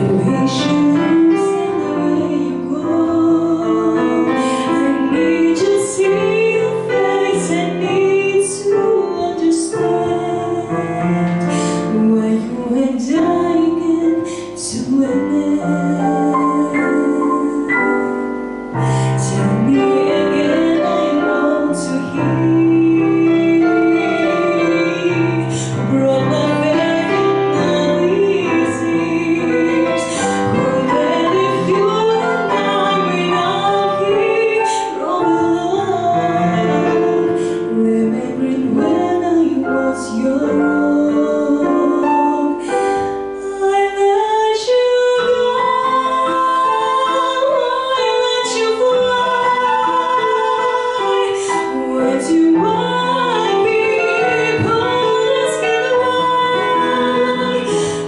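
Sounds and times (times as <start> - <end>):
digital piano chords: 0.0 - 58.0
woman singing into a microphone: 0.0 - 58.0.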